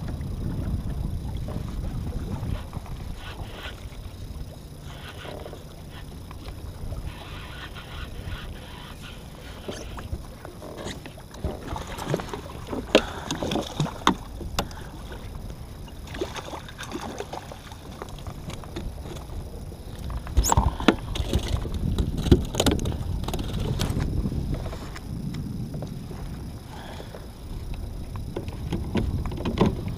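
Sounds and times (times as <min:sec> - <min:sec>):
water sloshing: 0:00.0 - 0:25.0
fishing gear clicking against hull: 0:00.0 - 0:29.9.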